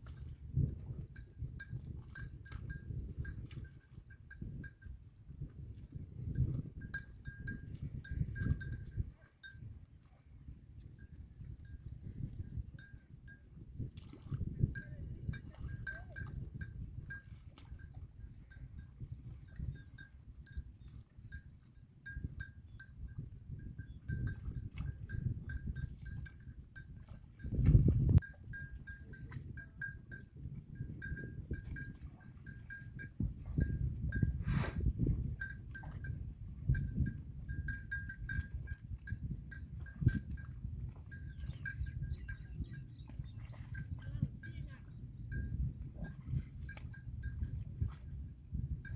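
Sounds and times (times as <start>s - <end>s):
animal bells clinking: 0.2s - 13.8s, 14.6s - 34.4s, 35.1s - 46.2s, 46.8s - 48.9s.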